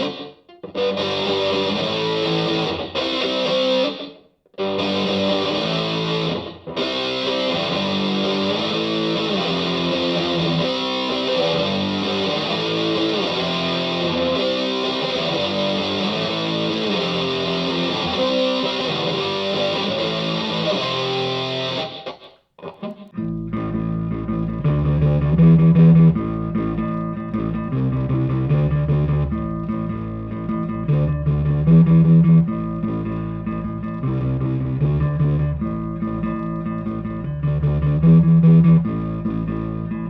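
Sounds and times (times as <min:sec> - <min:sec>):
choppy guitar notes: 0:00.0 - 0:40.0
distorted electric guitar riff: 0:00.0 - 0:40.0.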